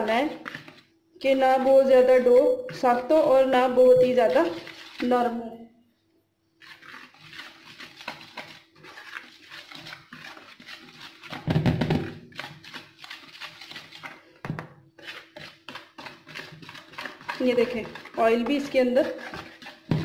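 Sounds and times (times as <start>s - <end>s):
whisk scraping through flour: 0.0s - 0.9s, 1.6s - 5.3s, 6.6s - 20.0s.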